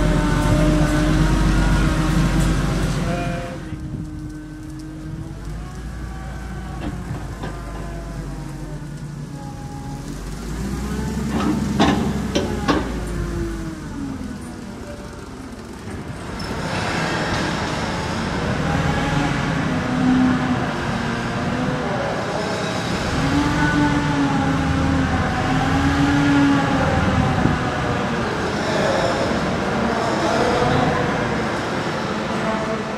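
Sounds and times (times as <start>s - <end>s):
engine running at low pitch: 0.0s - 31.7s.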